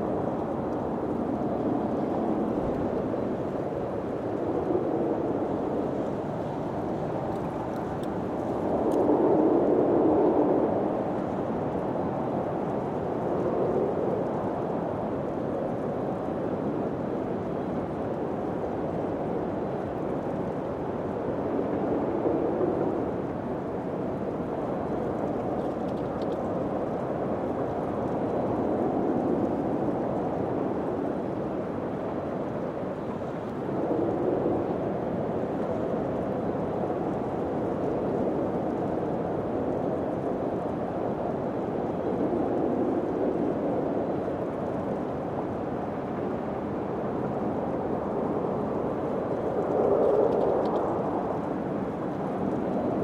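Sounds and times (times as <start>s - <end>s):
wind blowing: 0.0s - 16.5s, 26.4s - 53.0s.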